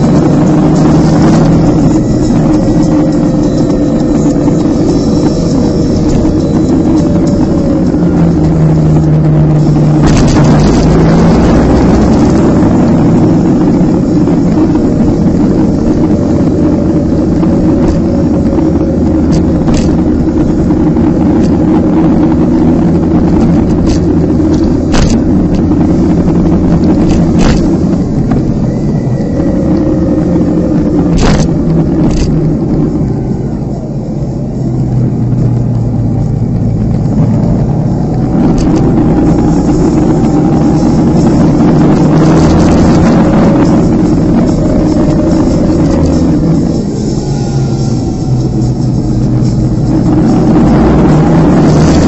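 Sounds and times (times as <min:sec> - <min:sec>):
motorcycle engine running: 0:00.0 - 0:52.0
road and wind rush: 0:00.0 - 0:52.0.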